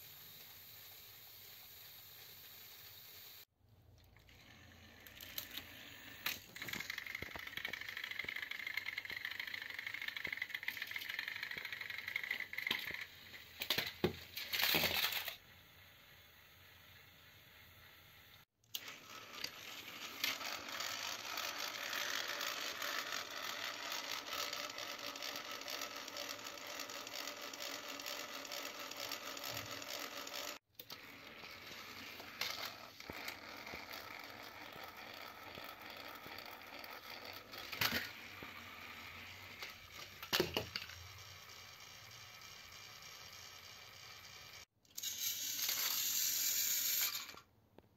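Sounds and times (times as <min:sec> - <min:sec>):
toy train motors whirring: 0:00.0 - 0:03.5, 0:04.2 - 0:47.5.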